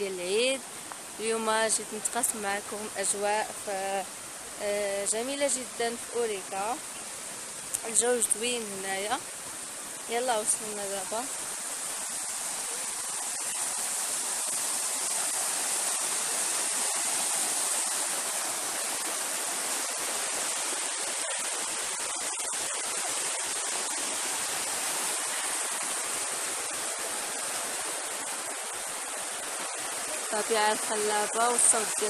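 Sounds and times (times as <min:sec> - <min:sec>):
river rushing over rocks: 0:00.1 - 0:32.0.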